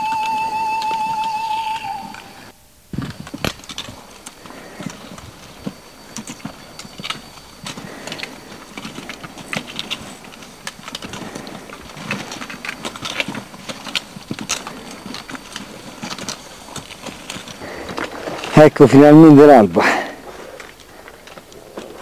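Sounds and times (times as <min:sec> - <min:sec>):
boots crunching on scree: 0:00.0 - 0:22.0.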